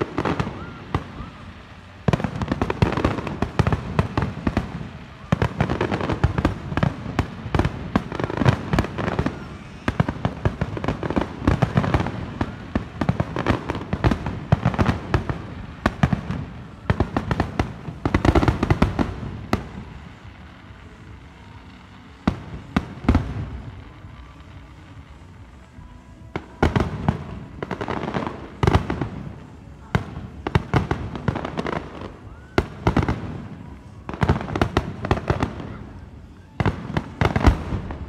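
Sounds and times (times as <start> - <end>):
fireworks bursts and bangs: 0.0 - 38.0.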